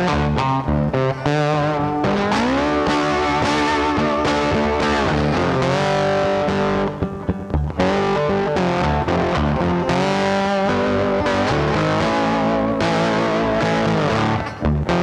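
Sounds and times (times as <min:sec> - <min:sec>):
distorted electric guitar music: 0:00.0 - 0:15.0.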